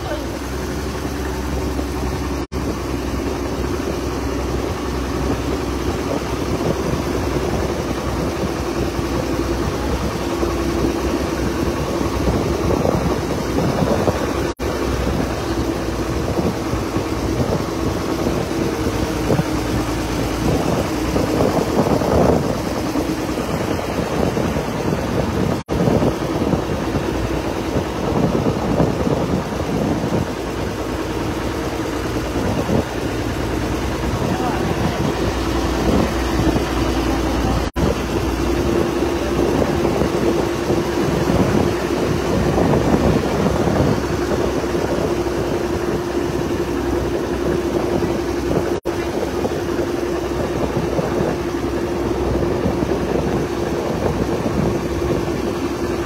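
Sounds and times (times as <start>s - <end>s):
boat engine running: 0.0s - 56.0s
water noise: 0.0s - 56.0s
wind: 0.0s - 56.0s.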